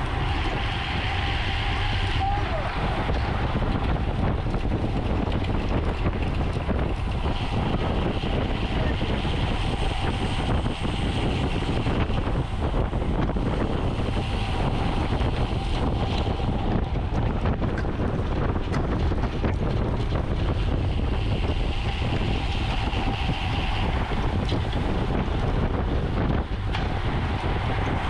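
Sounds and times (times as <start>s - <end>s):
faint tyre and drivetrain hum: 0.0s - 28.0s
wind rushing over microphone: 0.0s - 28.0s.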